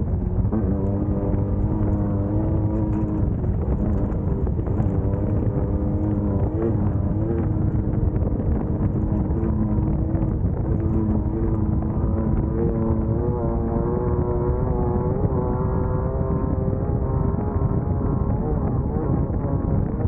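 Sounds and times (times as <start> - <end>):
constant low rumble: 0.0 - 20.0
race car engine running hard: 0.0 - 20.0.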